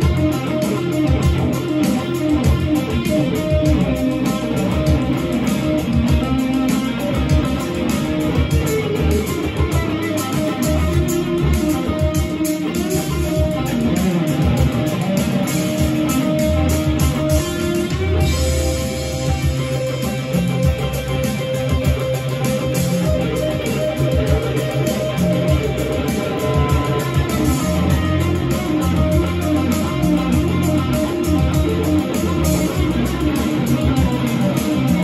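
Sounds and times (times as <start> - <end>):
electric guitar lead with bends: 0.0 - 35.0.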